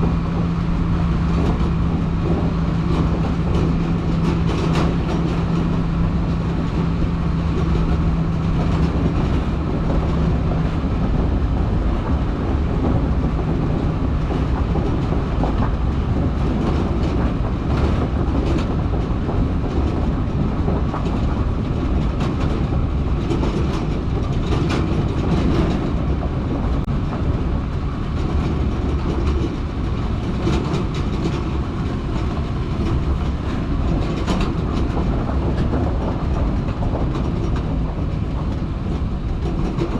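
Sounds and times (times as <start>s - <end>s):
diesel truck engine: 0.0s - 39.9s
rattling and clatter: 0.0s - 39.9s
road noise rumbling: 0.0s - 39.9s.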